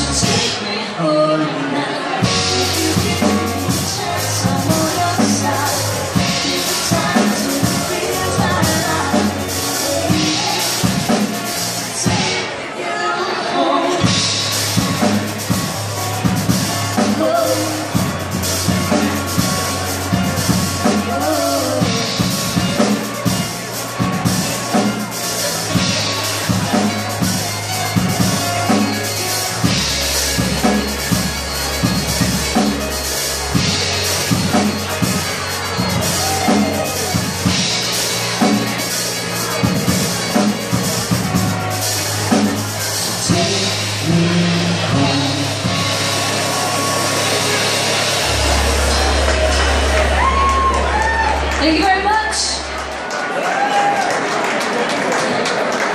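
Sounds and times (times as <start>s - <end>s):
held bass line: 0.0s - 0.5s, 2.0s - 12.3s, 14.0s - 53.1s
keyboards: 0.0s - 55.9s
drum kit beat: 2.2s - 12.4s, 14.0s - 52.1s.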